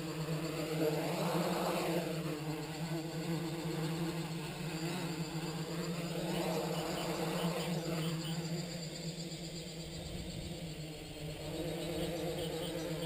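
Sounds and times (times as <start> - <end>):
quadcopter buzzing hum: 0.0 - 13.0.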